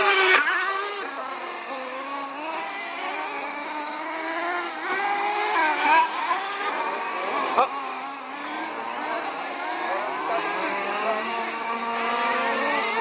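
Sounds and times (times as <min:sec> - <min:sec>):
racing vehicle engines revving: 0:00.0 - 0:13.0.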